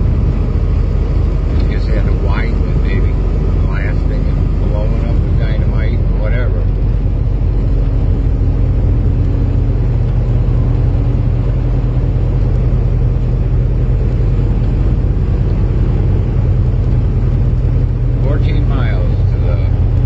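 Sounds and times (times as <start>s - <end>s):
diesel truck engine drone: 0.0s - 20.0s
road noise: 0.0s - 20.0s.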